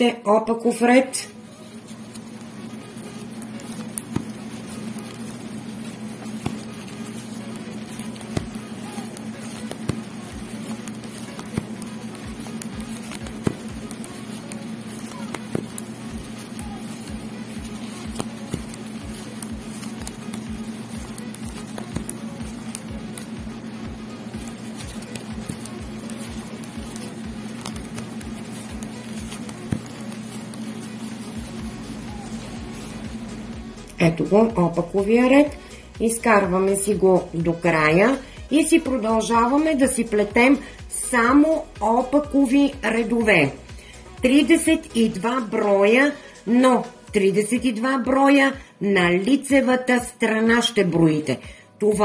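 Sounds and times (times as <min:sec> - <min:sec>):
steady low hum: 0:00.6 - 0:49.2
yarn rustling: 0:01.4 - 0:45.2.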